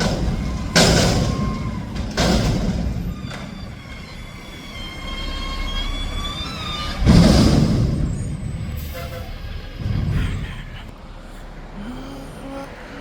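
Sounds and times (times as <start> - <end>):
garbage truck diesel rumble: 0.0 - 13.0.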